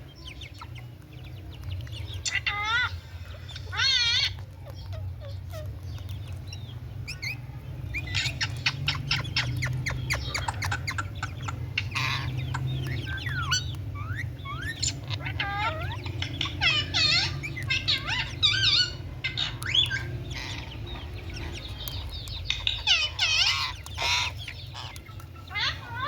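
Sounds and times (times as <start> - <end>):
steady low hum: 0.0 - 26.0
parrot chattering: 1.6 - 26.0.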